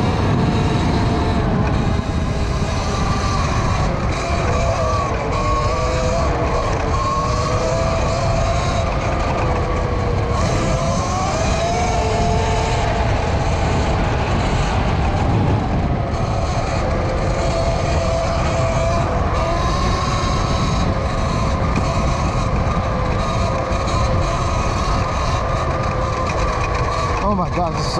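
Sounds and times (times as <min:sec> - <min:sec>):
electric motor whining: 0:00.0 - 0:27.9
wind rush on microphone: 0:00.0 - 0:27.9.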